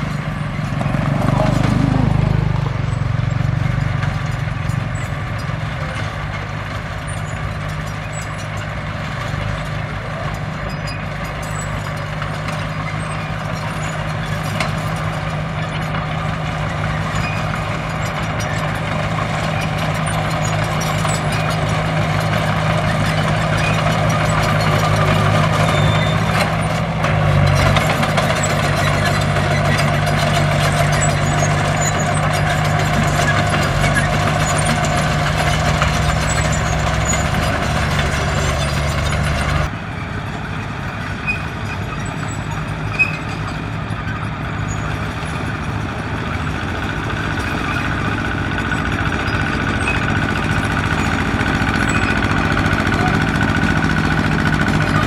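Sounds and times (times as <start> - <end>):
heavy machine engine running: 0.0 - 55.0.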